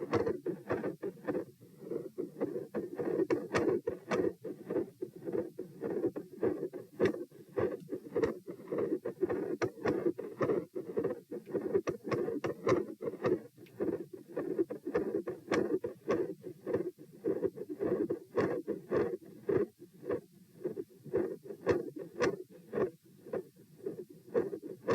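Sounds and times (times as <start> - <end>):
continuous heart murmur: 0.0 - 24.9.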